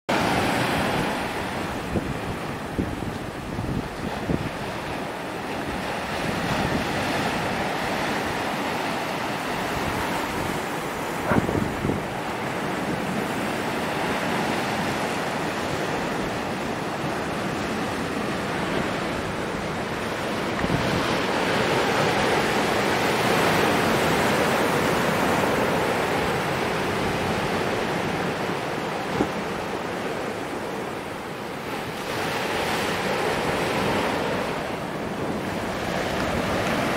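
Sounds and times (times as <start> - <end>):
ocean waves crashing: 0.1 - 36.9.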